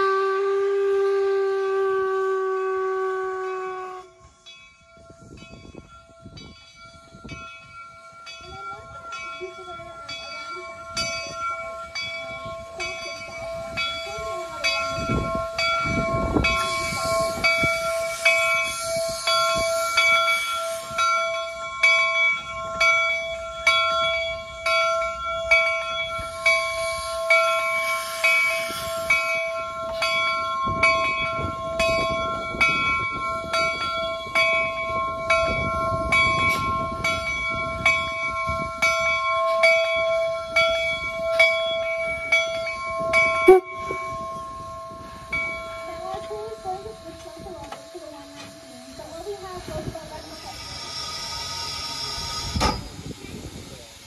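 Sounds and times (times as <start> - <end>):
locomotive bell ringing: 1.6 - 54.0
steam hissing: 10.4 - 54.0.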